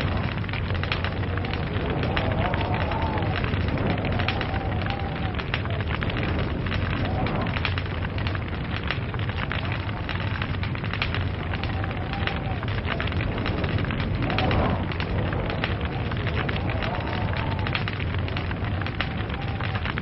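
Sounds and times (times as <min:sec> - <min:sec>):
log fire crackling and popping: 0:00.0 - 0:20.0
low rumble of flames: 0:00.0 - 0:20.0.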